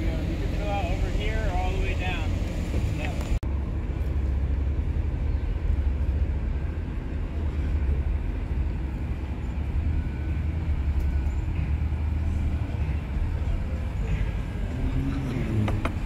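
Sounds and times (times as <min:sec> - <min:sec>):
vehicle low rumble: 0:00.0 - 0:16.0.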